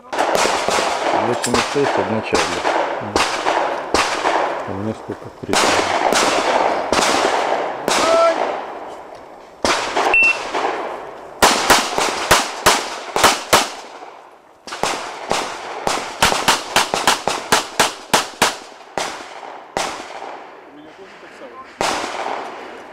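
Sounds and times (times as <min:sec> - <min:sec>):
pistol shots echoing: 0:00.0 - 0:22.9.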